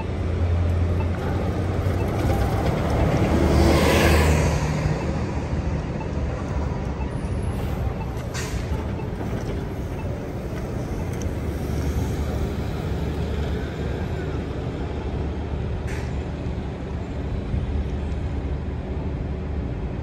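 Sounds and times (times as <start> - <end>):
bus engine hum: 0.0 - 20.0.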